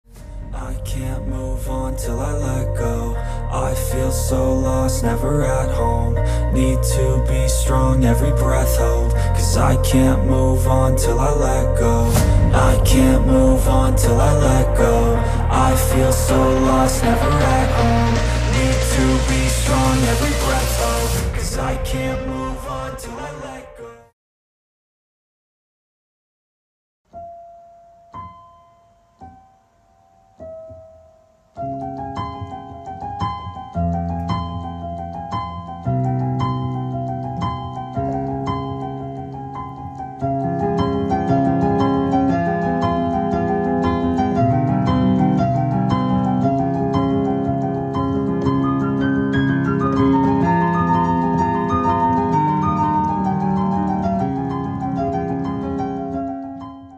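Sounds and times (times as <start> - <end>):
piano music: 0.1 - 24.1, 27.1 - 56.9.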